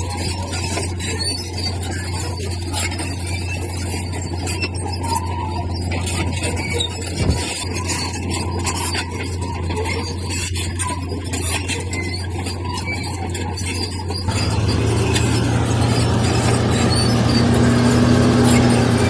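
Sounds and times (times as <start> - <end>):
bulldozer diesel engine running: 0.0 - 19.0
steel tracks squealing and clicking: 0.0 - 19.0.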